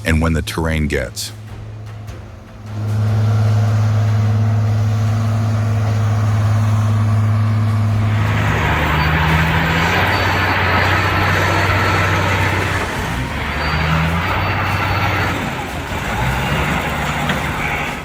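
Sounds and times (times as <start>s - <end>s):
heavy vehicle engine humming: 0.0s - 18.0s
rough noisy sound: 0.0s - 18.0s.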